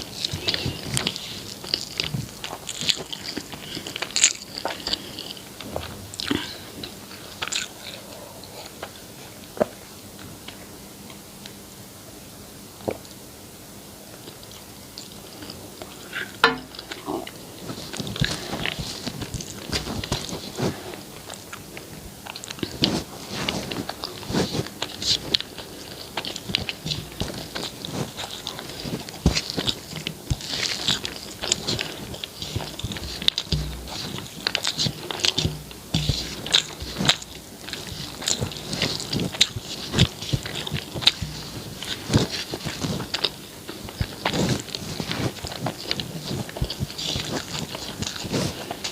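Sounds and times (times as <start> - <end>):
person chewing food: 0.0 - 11.2, 14.1 - 48.9.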